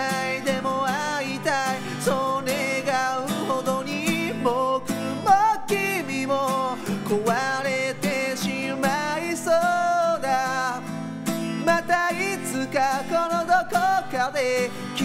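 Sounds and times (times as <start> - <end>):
acoustic guitar strumming: 0.0 - 15.0
man singing: 0.0 - 15.0.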